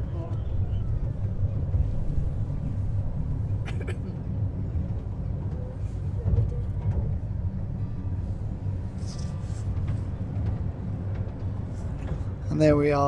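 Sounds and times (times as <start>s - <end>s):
ride-on train rumbling: 0.0s - 13.0s.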